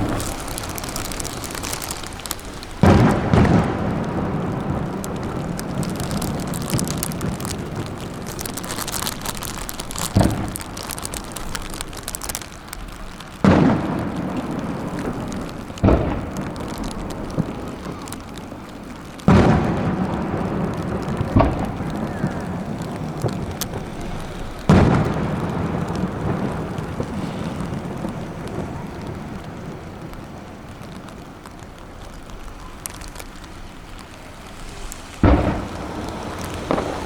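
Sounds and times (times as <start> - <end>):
fireworks booming: 0.0 - 33.5, 34.1 - 37.0
fireworks crackling: 0.0 - 37.0.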